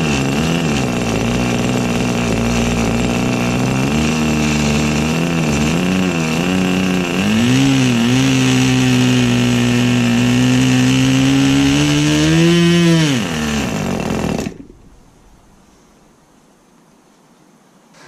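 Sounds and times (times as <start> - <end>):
model aircraft engine running: 0.0 - 14.9.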